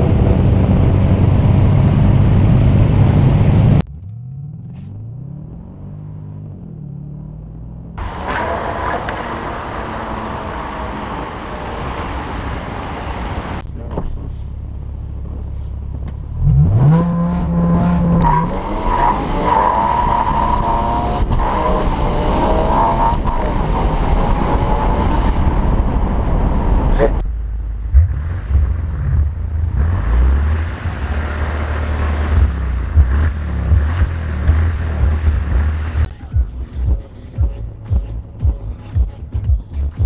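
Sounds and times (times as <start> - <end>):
car engine revving and accelerating: 0.0 - 13.6, 16.3 - 38.9
low exhaust rumble: 0.0 - 18.9, 20.6 - 40.0
road and wind noise: 0.0 - 40.0.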